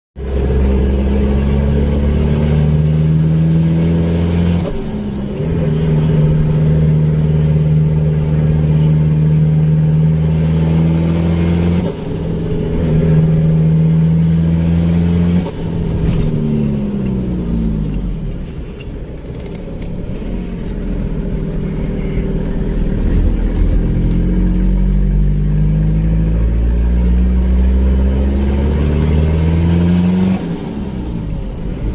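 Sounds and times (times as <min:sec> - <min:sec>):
diesel engine revving: 0:00.2 - 0:31.9.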